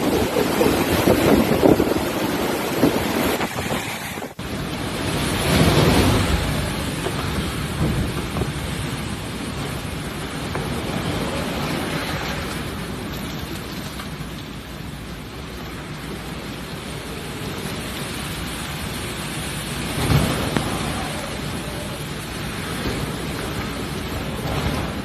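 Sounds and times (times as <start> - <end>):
wind and rain rushing: 0.0 - 25.0.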